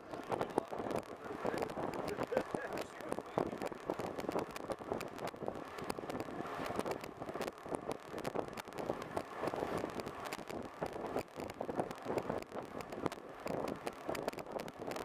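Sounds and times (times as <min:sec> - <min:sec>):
boat engine running: 0:00.0 - 0:15.0
wind on microphone: 0:00.0 - 0:15.0.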